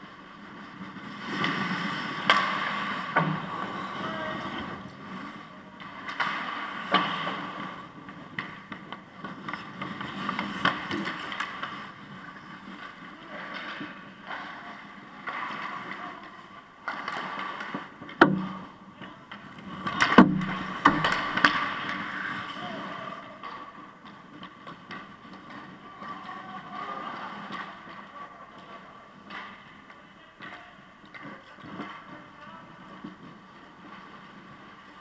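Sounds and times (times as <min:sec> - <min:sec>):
skates scraping ice: 0:00.0 - 0:35.0
hockey sticks clattering: 0:00.4 - 0:35.0.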